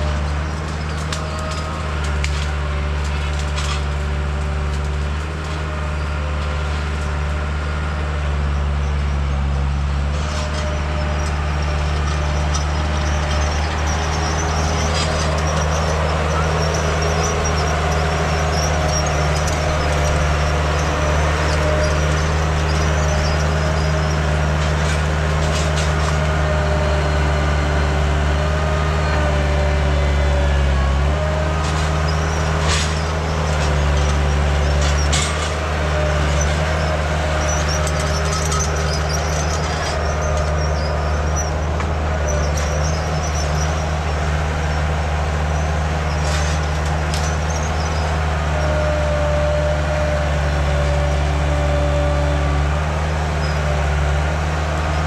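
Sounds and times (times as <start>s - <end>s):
earth-moving machine engine: 0.0s - 55.0s.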